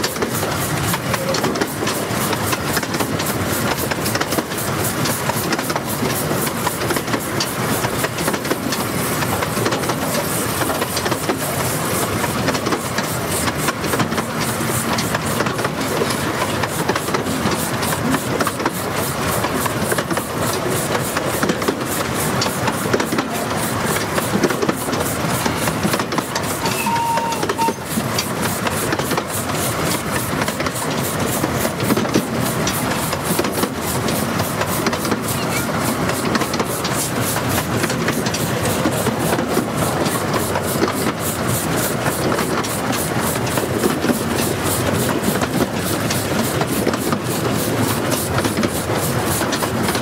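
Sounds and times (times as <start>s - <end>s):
steam hissing: 0.0s - 50.0s
train clattering over track: 0.0s - 50.0s.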